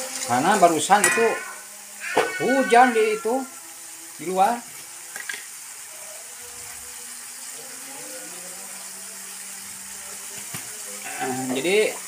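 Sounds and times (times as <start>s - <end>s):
sauce sizzling in a wok: 0.0s - 12.0s.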